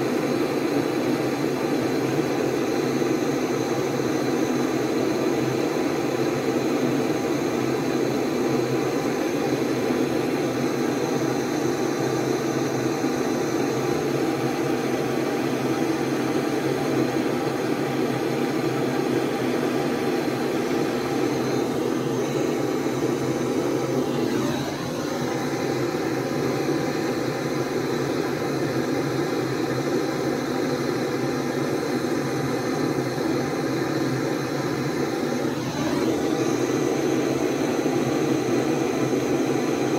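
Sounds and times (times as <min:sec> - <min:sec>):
gas torch burning: 0:00.0 - 0:39.9.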